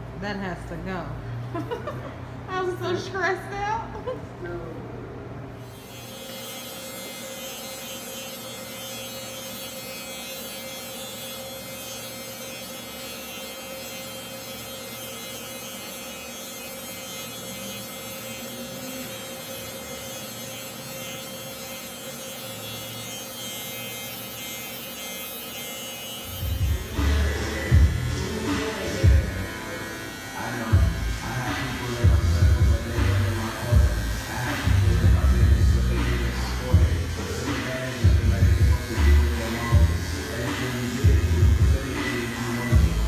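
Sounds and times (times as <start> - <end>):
electric hair clippers humming: 5.6 - 43.0.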